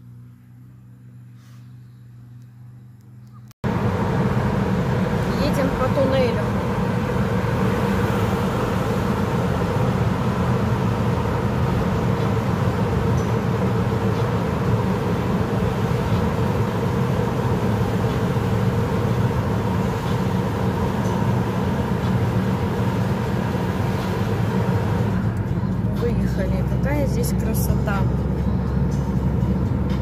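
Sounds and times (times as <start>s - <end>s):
car engine and tyre noise: 0.0s - 30.0s.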